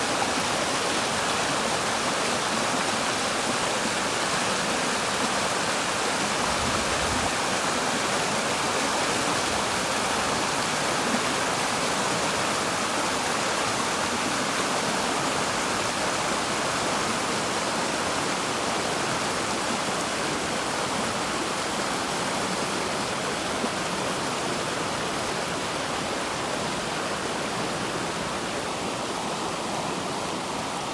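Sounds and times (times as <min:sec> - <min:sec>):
river water flowing: 0:00.0 - 0:30.9.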